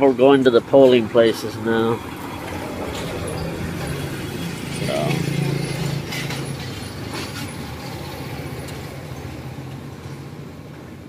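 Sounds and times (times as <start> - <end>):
vehicle engine humming: 0.2 - 11.0.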